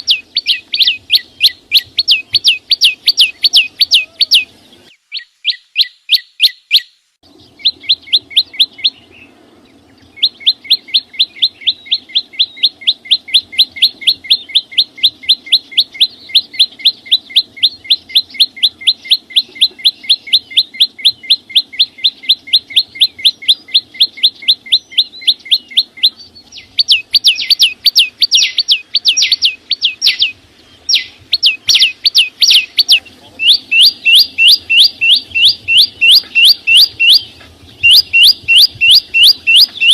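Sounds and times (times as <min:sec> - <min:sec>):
songbird singing sharp high notes: 0:00.0 - 0:39.9.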